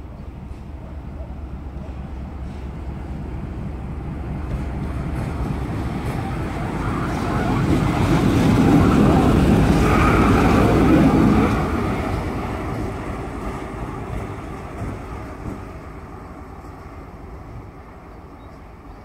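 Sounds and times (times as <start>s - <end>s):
diesel locomotive passing: 0.0s - 19.0s.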